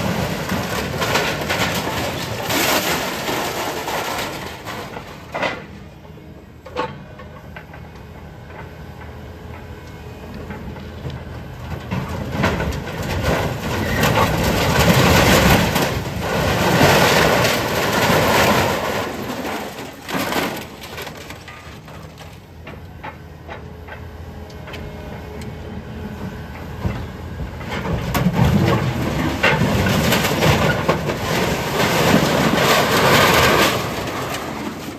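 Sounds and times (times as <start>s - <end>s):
engine running: 0.0s - 34.9s
scrap metal crunching and grinding: 0.0s - 34.9s.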